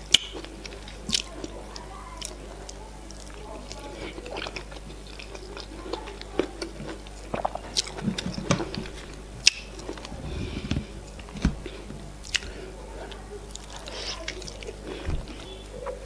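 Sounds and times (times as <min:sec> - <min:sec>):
wet chewing: 0:00.0 - 0:16.0.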